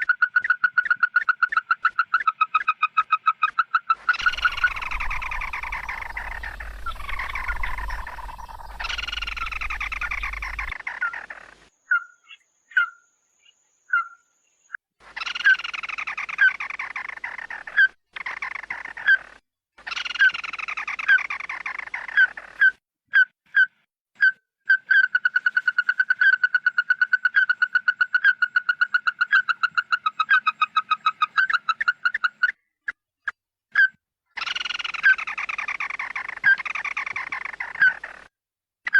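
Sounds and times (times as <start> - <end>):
bird calls and trill: 0.0 - 33.0, 33.8 - 38.3.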